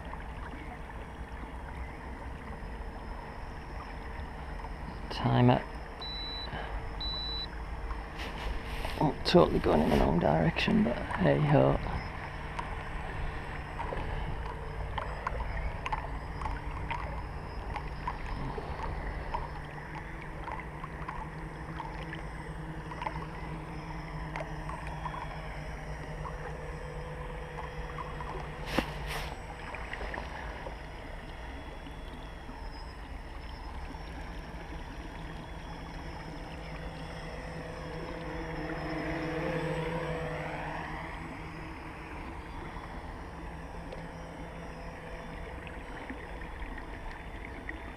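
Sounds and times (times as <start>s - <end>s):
drone motors buzzing: 0.0s - 47.9s
water lapping against kayak hull: 0.0s - 47.9s.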